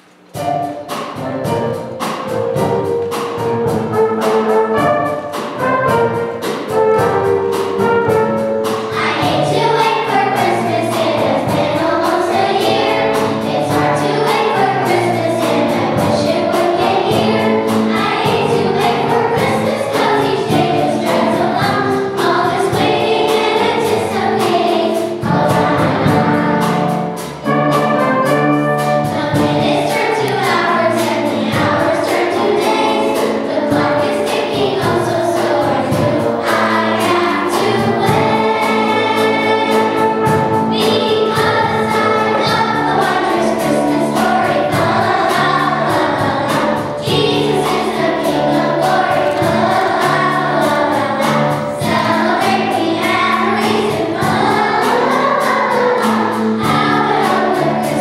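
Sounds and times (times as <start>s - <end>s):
children's choir singing: 0.0s - 58.0s
instrumental accompaniment: 0.0s - 58.0s.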